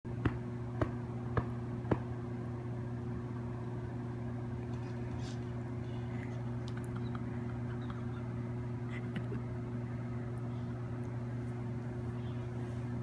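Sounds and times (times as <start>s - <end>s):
low machine hum: 0.1s - 13.0s.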